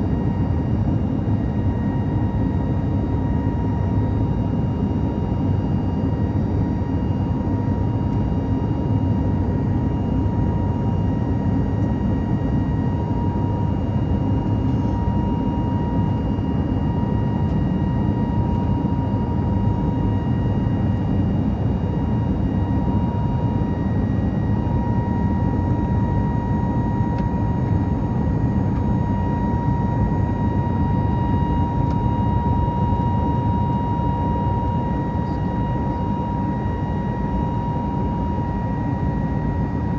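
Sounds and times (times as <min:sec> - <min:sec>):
airliner cabin engine rumble: 0:00.0 - 0:39.9
constant whine: 0:00.0 - 0:39.9.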